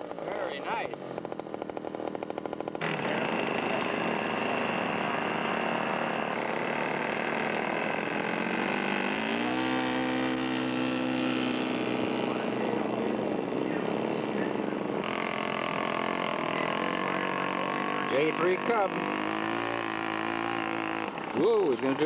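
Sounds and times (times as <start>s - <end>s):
model airplane engine running: 0.0s - 22.0s.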